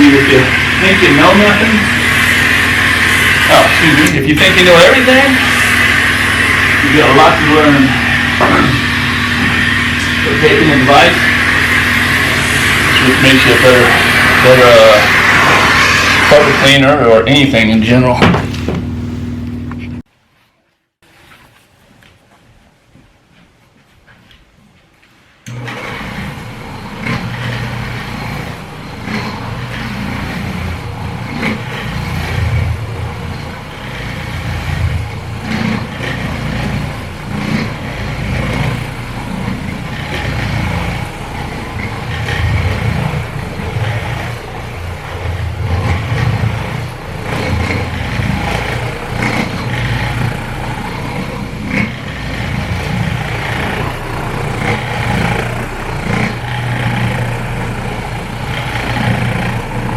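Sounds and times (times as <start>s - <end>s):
carpet cleaning machine humming: 0.0s - 20.0s, 25.5s - 59.9s.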